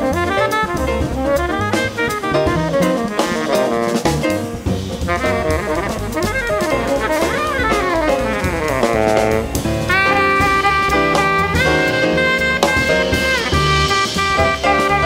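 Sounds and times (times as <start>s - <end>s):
double bass: 0.0s - 15.0s
drum kit with cymbals: 0.0s - 15.0s
jazz saxophone soloing: 0.0s - 15.0s
piano: 0.0s - 15.0s.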